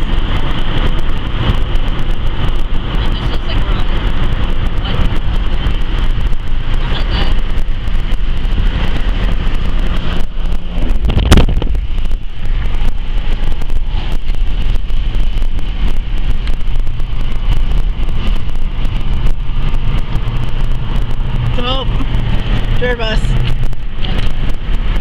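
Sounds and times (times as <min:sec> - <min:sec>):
car road rumble: 0:00.0 - 0:25.0
wind buffeting microphone: 0:00.0 - 0:25.0.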